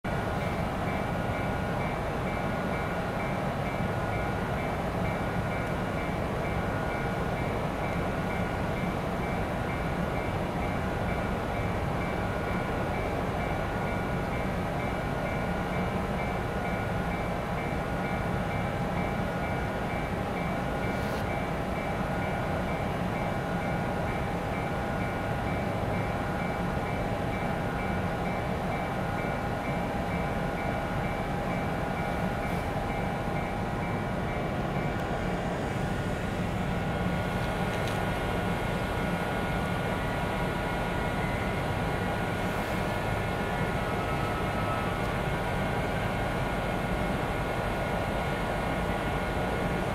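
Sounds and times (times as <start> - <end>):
electric train equipment humming: 0.1 - 49.9.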